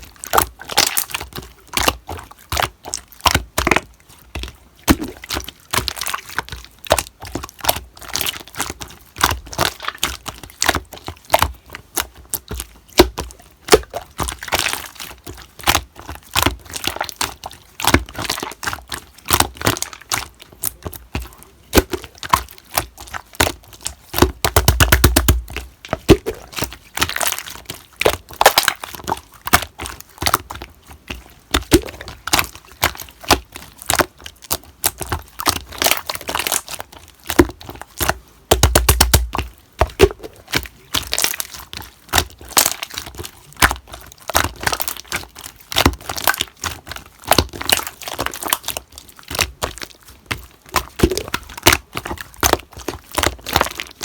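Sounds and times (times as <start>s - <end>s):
slime clicking and crackling: 0.0s - 54.0s.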